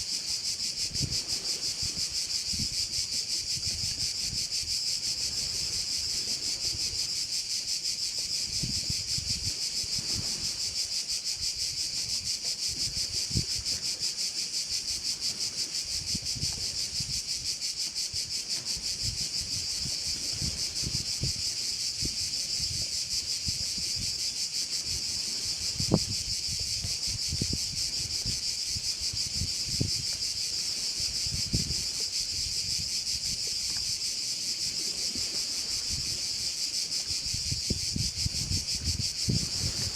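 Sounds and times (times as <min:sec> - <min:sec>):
crickets chirring: 0:00.0 - 0:39.9
wind thumps on microphone: 0:00.8 - 0:07.2, 0:08.2 - 0:10.7, 0:15.9 - 0:34.0, 0:34.7 - 0:39.9.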